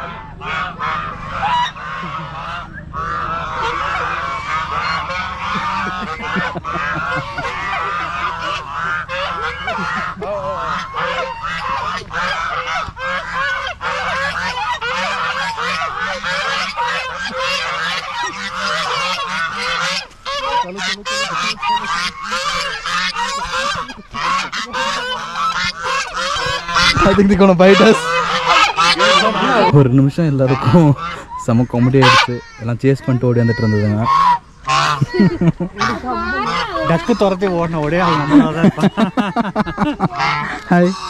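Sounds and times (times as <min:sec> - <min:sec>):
ducks quacking: 0:00.0 - 0:41.0.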